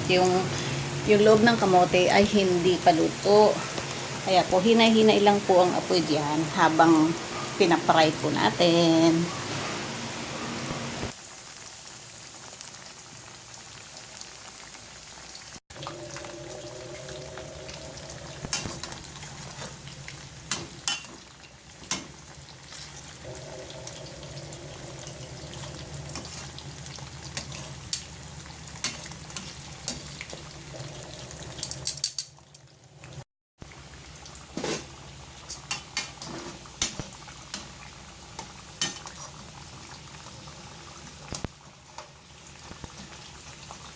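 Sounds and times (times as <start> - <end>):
food sizzling in oil: 0.0 - 32.5, 33.1 - 43.9.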